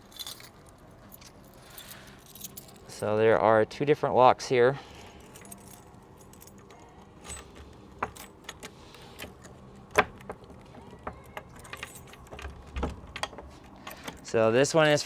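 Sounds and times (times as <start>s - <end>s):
keys jangling: 0.0s - 3.2s, 4.8s - 15.0s.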